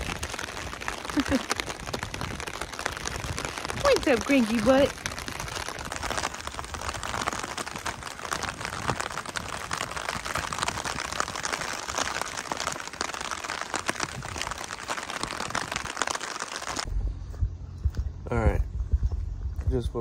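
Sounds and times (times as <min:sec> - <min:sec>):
rain on plastic umbrella: 0:00.0 - 0:16.9.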